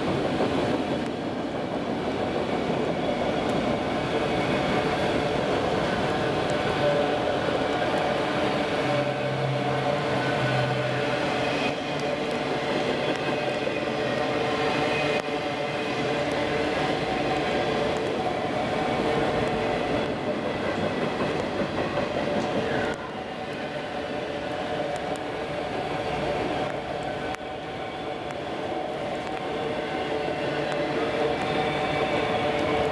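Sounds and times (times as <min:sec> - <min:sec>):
freight train rumbling past: 0:00.0 - 0:32.9.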